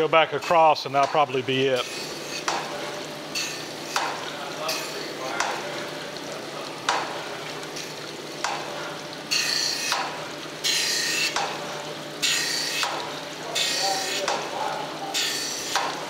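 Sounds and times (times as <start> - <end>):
coolant hissing and splashing: 0.0 - 16.0.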